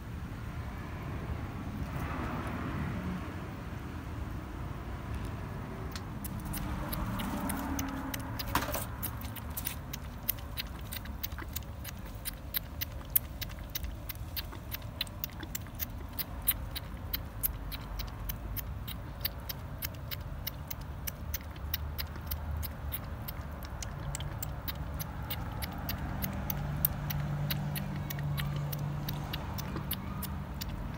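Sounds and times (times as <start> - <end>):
steady low rumble: 0.0 - 30.9
kitten lapping liquid: 5.2 - 30.9.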